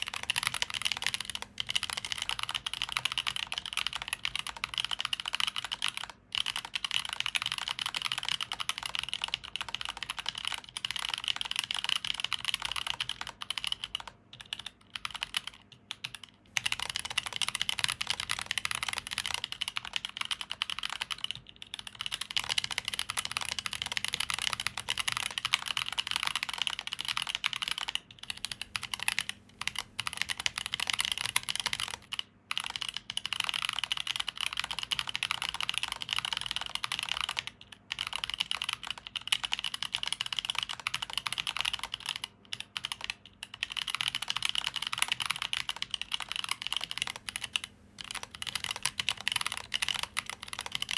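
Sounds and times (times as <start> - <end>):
mechanical keyboard typing: 0.0 - 50.9.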